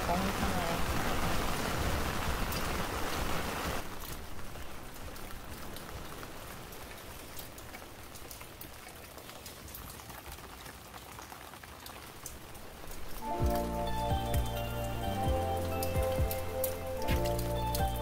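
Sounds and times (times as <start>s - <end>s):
raindrops ticking on surfaces: 0.0s - 18.0s
steady rain falling: 0.0s - 18.0s.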